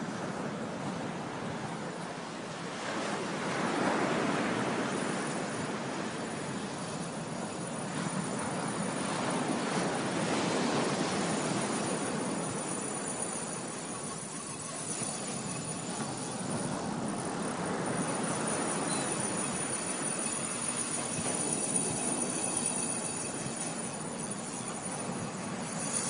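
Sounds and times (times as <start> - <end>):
ocean surf breaking: 2.4 - 25.8.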